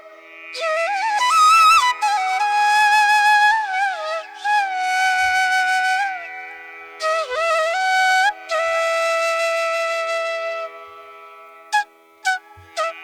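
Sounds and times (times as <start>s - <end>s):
solo flute playing: 0.0s - 13.0s.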